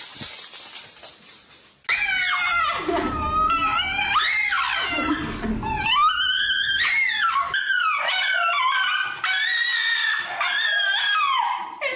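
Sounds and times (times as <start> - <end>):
dog howling and whining: 1.9 - 11.9.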